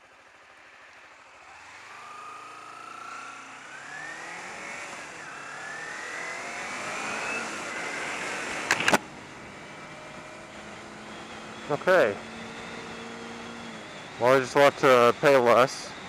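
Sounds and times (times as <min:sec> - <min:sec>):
motorcycle engine accelerating: 0:00.0 - 0:15.6.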